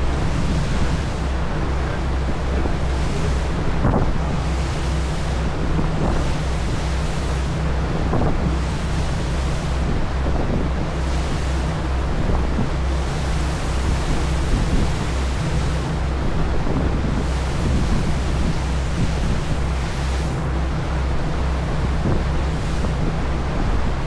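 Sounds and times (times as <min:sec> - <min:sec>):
churning wake rushing: 0:00.0 - 0:24.0
ferry engines droning: 0:00.0 - 0:24.0
wind buffeting microphone: 0:00.0 - 0:24.0.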